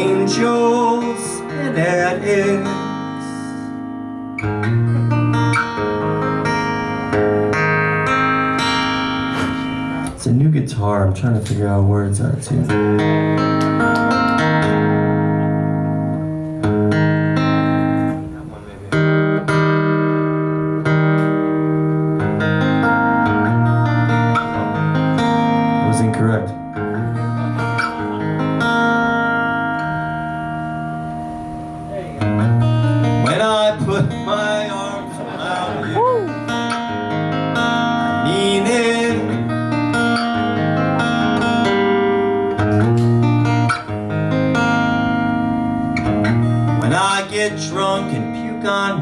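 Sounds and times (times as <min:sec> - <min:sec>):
acoustic guitar playing: 0:00.0 - 0:49.0.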